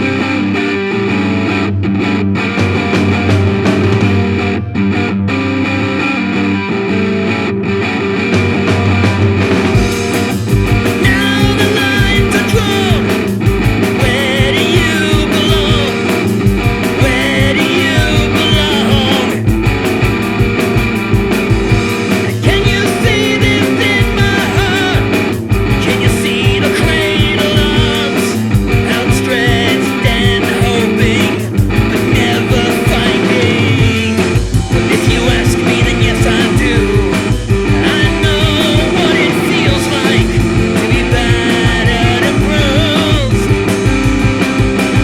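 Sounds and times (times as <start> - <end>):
rock band playing: 0.0 - 45.0
wavering lead line: 0.7 - 7.5, 8.5 - 45.0.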